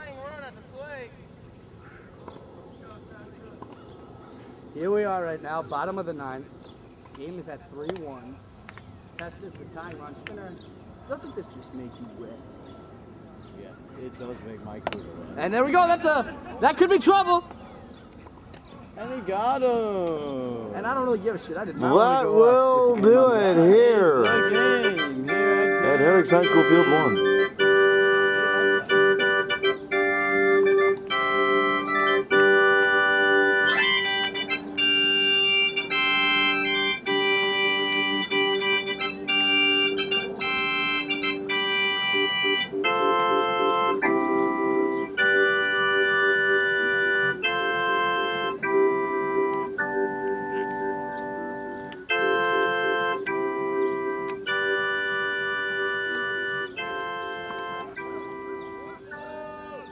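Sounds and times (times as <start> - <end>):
organ chords: 0.0 - 59.9
sustained organ note: 9.2 - 18.2, 18.9 - 59.9.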